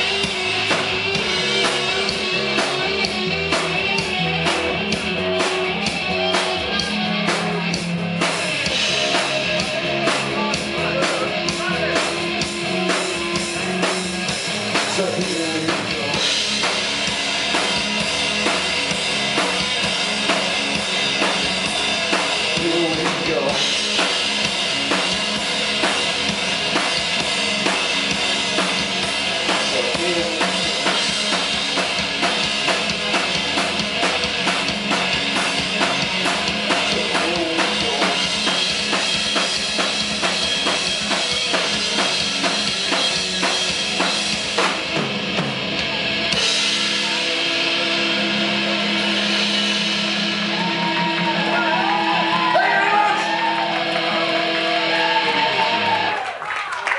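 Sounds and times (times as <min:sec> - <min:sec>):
bass guitar: 0:00.0 - 0:56.9
drum kit: 0:00.0 - 0:56.9.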